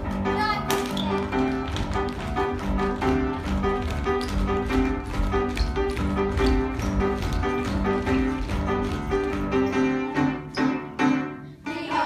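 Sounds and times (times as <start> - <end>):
feet tapping on stage floor: 0.0 - 9.9
music with steady beat: 1.2 - 10.9.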